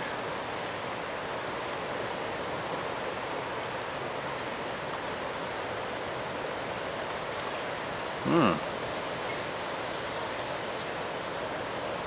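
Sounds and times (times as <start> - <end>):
wind and lake water rushing: 0.0 - 12.0.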